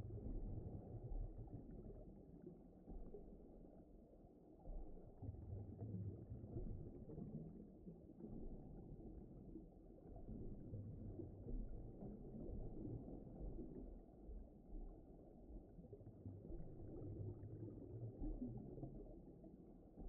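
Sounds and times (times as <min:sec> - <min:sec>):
low underwater rumbling: 0:00.0 - 0:20.0.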